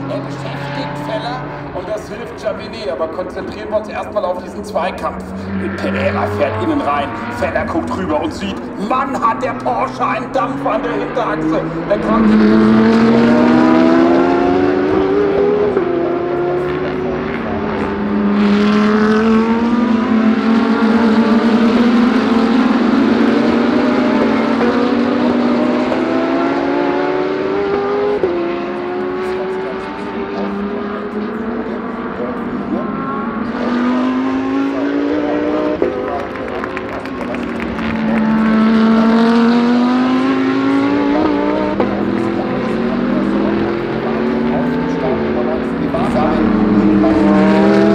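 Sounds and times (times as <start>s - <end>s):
race car engines accelerating past: 0.0s - 47.9s.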